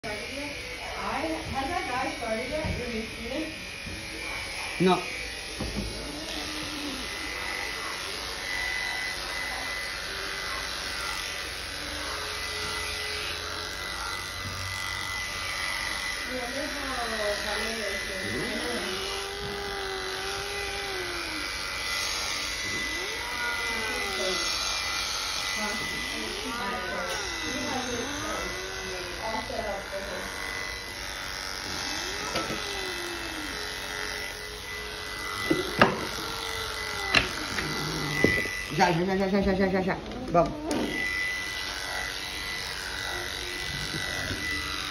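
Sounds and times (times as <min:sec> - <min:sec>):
electric pet clipper buzzing: 0:00.0 - 0:44.9.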